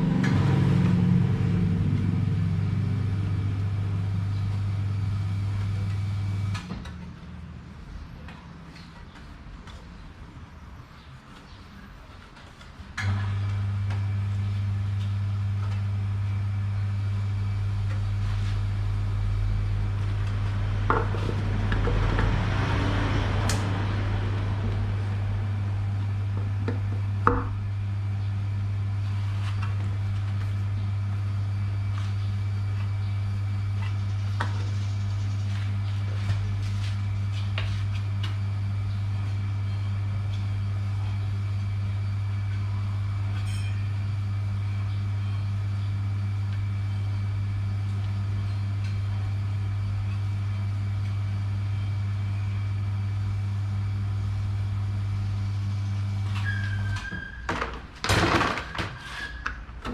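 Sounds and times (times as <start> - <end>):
electric fan motor humming: 0.0 - 7.7, 12.5 - 58.8.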